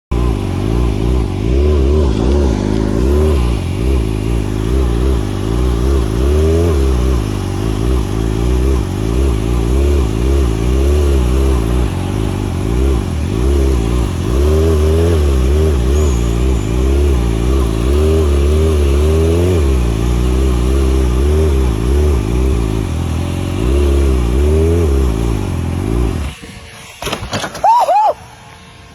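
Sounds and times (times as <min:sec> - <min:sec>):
motorcycle engines revving: 0:00.1 - 0:28.9.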